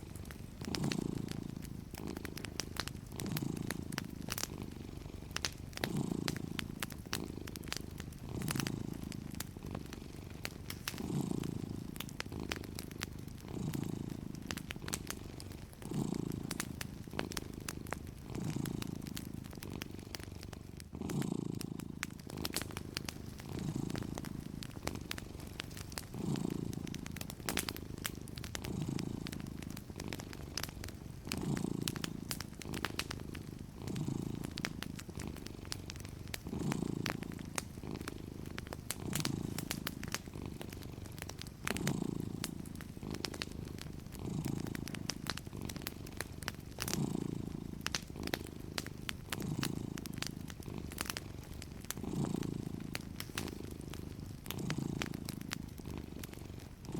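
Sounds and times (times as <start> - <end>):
cat purring: 0.0 - 56.9
wood fire crackling: 0.0 - 56.9.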